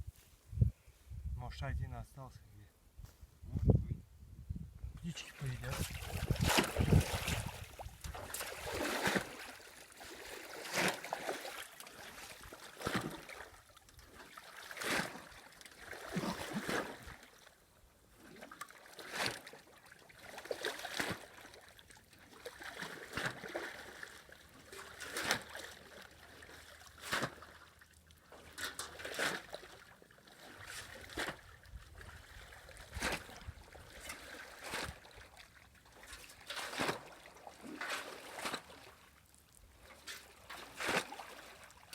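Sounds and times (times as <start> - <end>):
water splashing: 5.2 - 17.4, 18.2 - 41.9.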